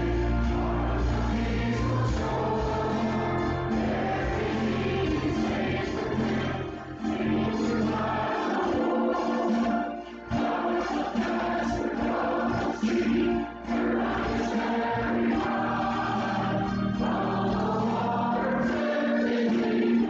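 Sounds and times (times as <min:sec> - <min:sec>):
choir and congregation singing: 0:00.0 - 0:20.0
instrumental accompaniment: 0:00.0 - 0:20.0.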